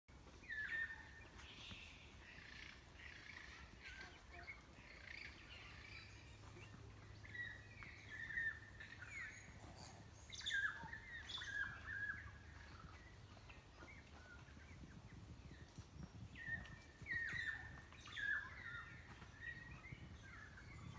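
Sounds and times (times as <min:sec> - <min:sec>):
faint low rumble: 0:00.1 - 0:20.9
forest birds singing: 0:00.1 - 0:20.9.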